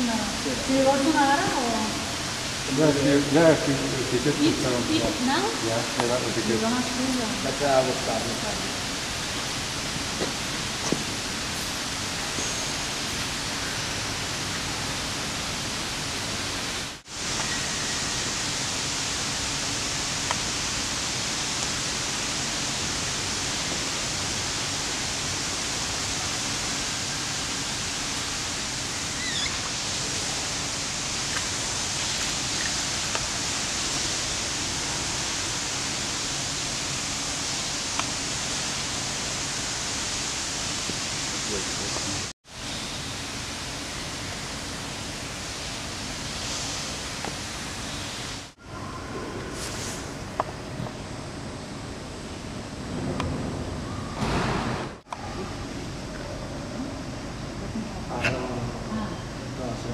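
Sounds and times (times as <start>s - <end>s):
running water hiss: 0.0s - 48.6s.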